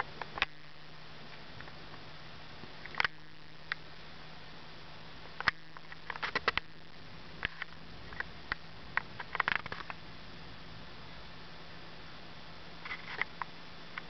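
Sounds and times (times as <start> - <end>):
faint low hum: 0.0 - 14.0
steady hiss: 0.0 - 14.0.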